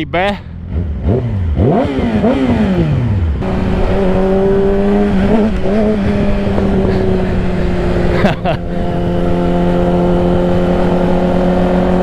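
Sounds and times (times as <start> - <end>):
motorcycle engine running: 0.4 - 12.0.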